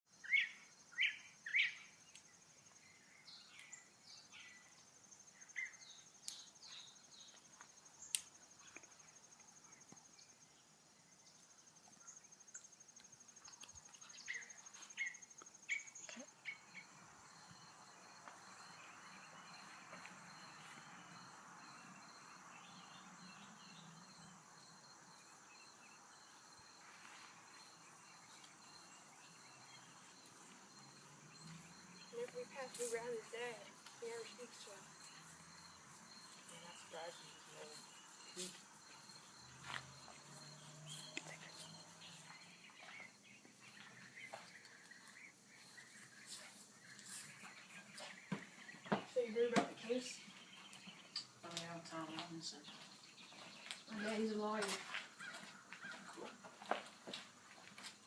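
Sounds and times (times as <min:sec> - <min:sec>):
bird chirps: 0:00.1 - 0:56.3
insects trilling: 0:00.1 - 0:57.1.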